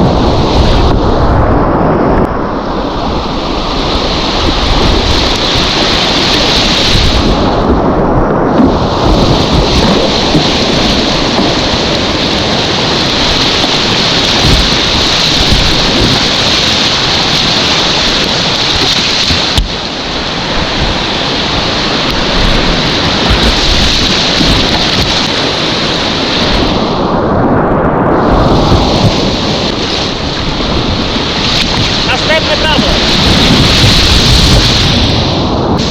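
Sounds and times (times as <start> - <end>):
whitewater rushing: 2.6 - 7.7, 8.5 - 27.2, 28.2 - 35.9.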